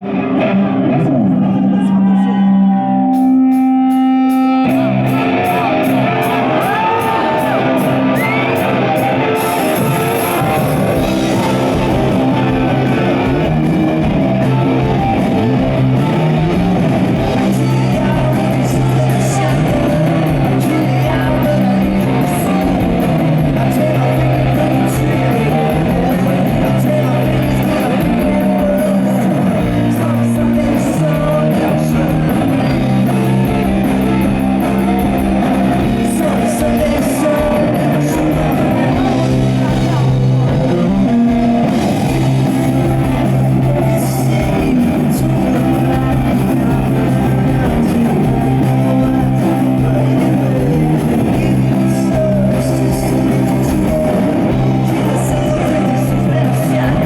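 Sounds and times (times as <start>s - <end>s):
held electric guitar notes: 0.0s - 57.0s
live rock band playing: 0.0s - 57.0s
steady drum beat: 3.2s - 57.0s.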